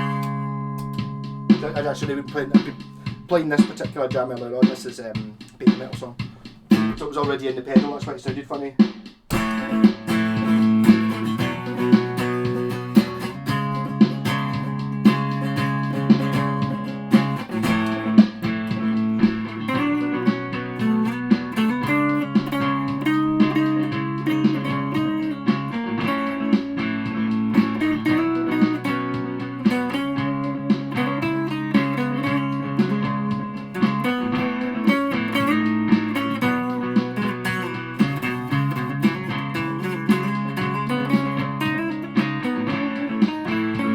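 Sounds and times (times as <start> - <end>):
distorted electric guitar riff: 0.0 - 43.9.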